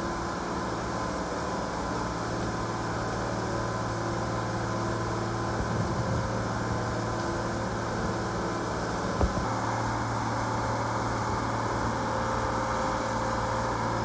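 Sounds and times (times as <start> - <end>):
excavator diesel engine drone: 0.0 - 14.0.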